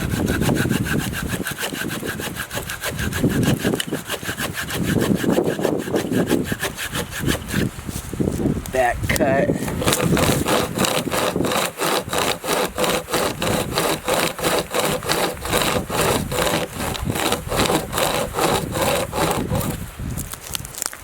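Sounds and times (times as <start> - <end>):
hand saw cutting wood: 0.0 - 8.0, 9.1 - 19.9.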